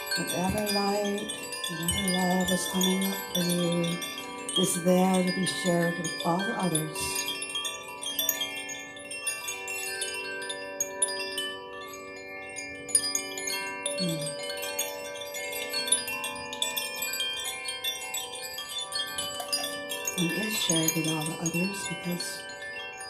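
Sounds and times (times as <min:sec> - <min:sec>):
long overlapping ringing tones: 0:00.0 - 0:23.0
wind chimes tinkling: 0:00.0 - 0:23.0.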